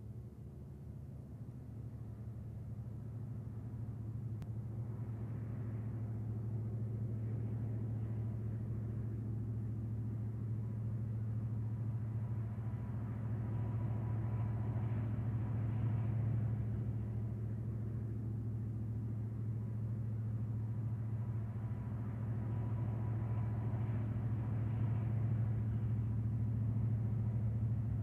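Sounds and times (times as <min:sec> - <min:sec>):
diesel locomotive engines droning: 0:00.0 - 0:28.0.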